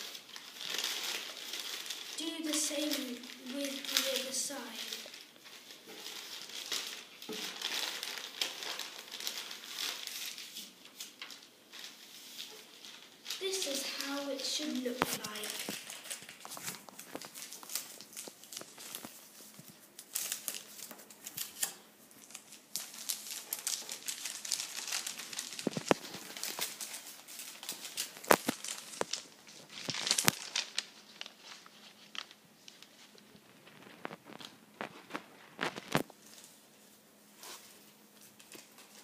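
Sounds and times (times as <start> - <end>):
newspaper rustling and crackling: 0.0 - 39.0.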